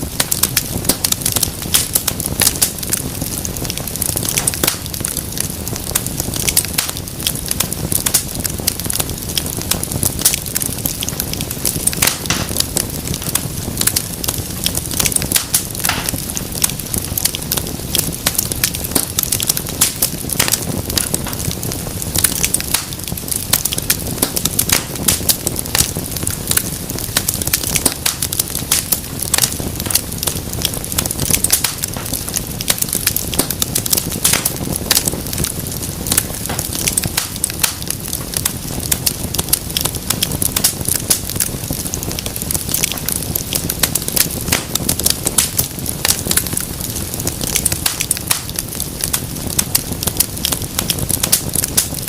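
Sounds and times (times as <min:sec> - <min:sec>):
low rumble of flame: 0:00.0 - 0:52.0
wood fire popping and crackling: 0:00.0 - 0:52.0.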